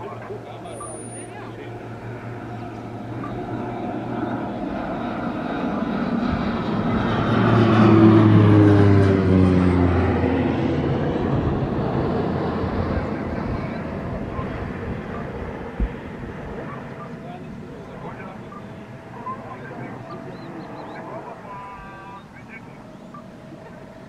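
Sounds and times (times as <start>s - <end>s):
propeller aircraft passing overhead: 0.0s - 24.0s.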